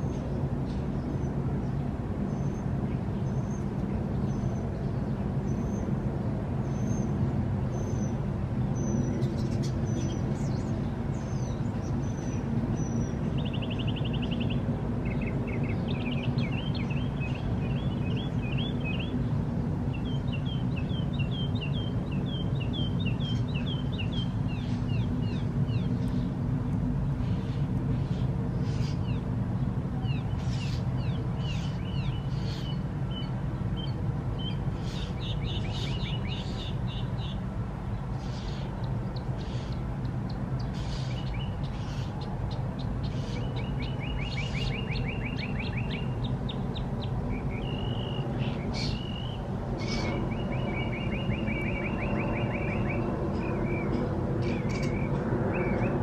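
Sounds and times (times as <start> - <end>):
songbirds calling: 0.0 - 56.0.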